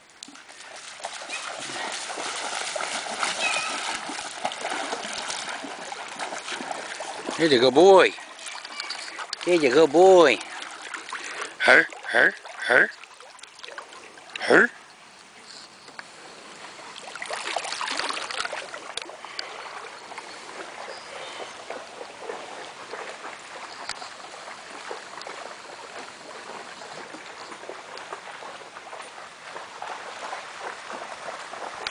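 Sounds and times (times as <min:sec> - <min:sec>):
water splashing in shallow floodwater: 0:00.0 - 0:31.9.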